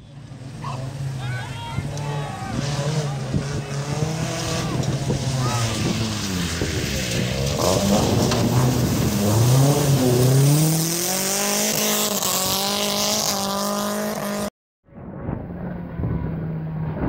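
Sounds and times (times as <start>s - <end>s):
distant engine: 0.0s - 17.0s
rally car engine revving: 0.2s - 17.0s.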